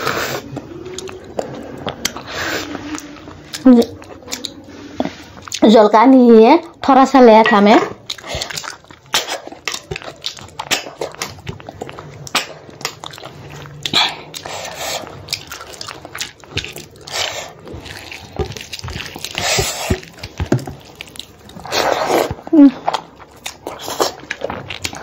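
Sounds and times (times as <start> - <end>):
chewing food: 0.0 - 5.8, 7.9 - 25.0.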